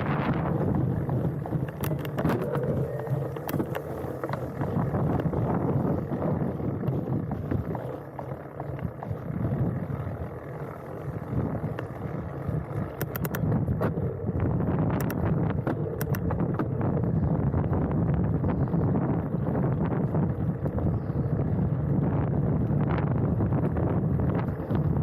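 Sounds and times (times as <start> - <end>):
bike rattling over bumps: 0.0 - 25.0
bike tyres rumbling on dirt: 0.0 - 25.0
wind on microphone: 0.0 - 25.0.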